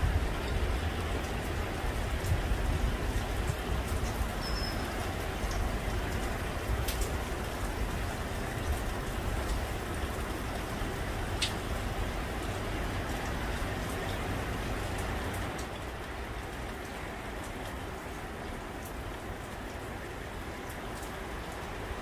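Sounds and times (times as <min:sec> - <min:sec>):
rain on leaves and pavement: 0:00.0 - 0:22.0
raindrop ticks: 0:00.3 - 0:22.0.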